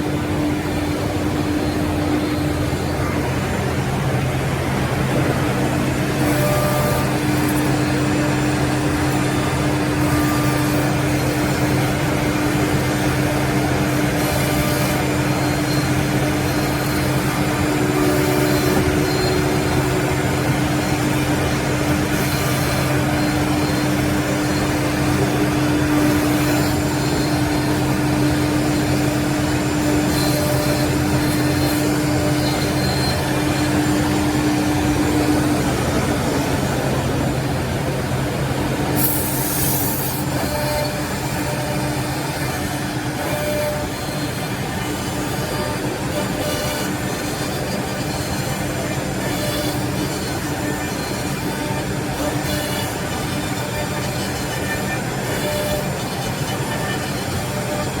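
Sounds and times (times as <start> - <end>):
machine motor drone and whine: 0.0 - 58.0.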